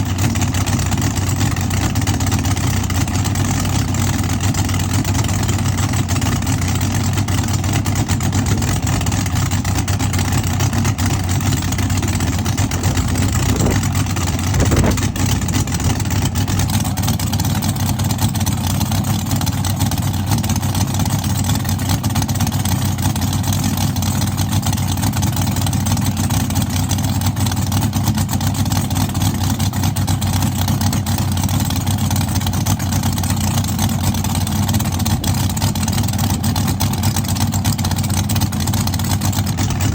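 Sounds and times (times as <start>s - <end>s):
car engine idling loudly: 0.0s - 39.9s.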